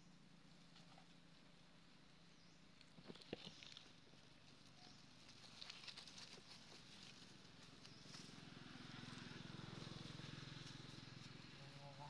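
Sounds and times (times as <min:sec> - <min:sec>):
faint low engine hum: 0:00.0 - 0:12.0.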